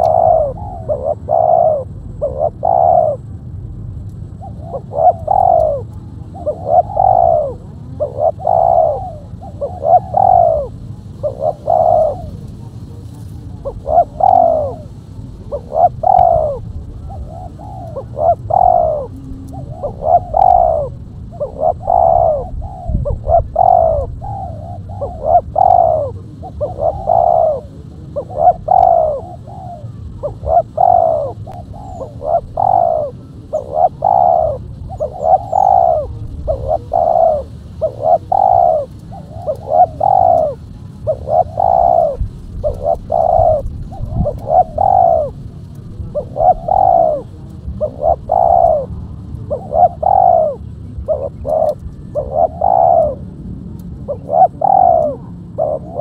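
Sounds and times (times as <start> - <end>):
dove cooing: 0.0 - 3.3, 4.2 - 56.0.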